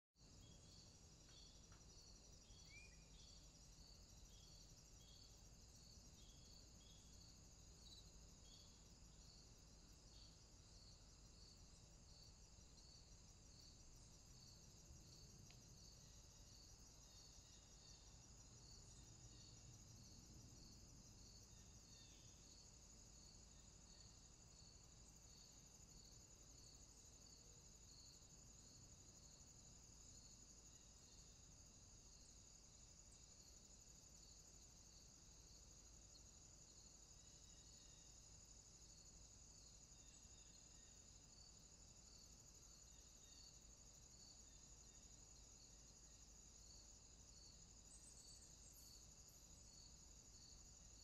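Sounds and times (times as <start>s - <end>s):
crickets chirping: 0.2s - 51.0s.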